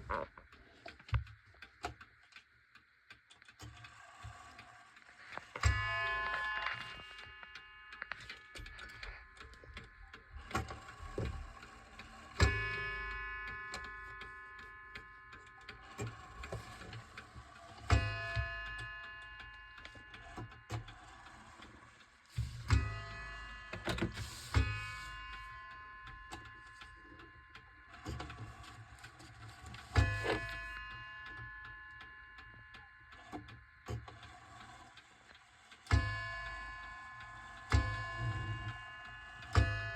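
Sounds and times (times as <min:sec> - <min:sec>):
clock ticking softly: 0:00.0 - 0:39.9
mantel clock striking: 0:04.0 - 0:39.9.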